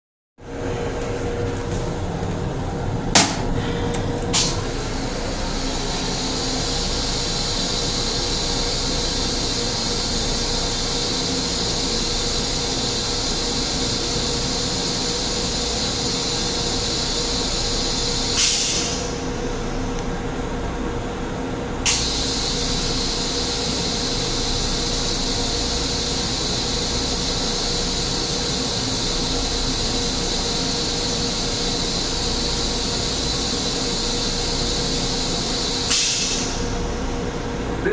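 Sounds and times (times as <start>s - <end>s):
ventilation hiss and hum: 0.4s - 37.9s.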